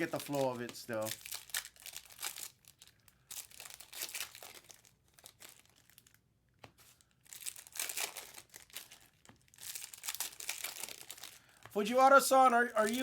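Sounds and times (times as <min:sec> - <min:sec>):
foil wrappers crinkling and tearing: 0:00.0 - 0:06.2, 0:06.8 - 0:13.0.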